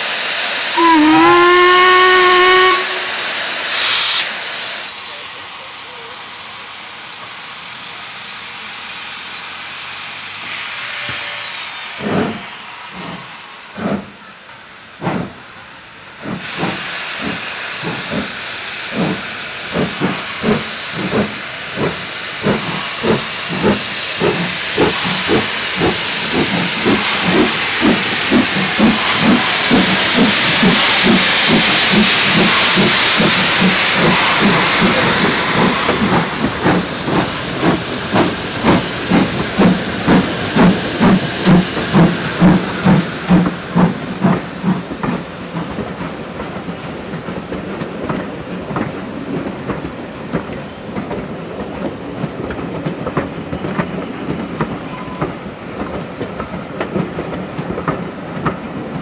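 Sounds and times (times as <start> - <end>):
loud steam hiss: 0.0 - 58.9
steam locomotive chuffing: 0.0 - 59.0.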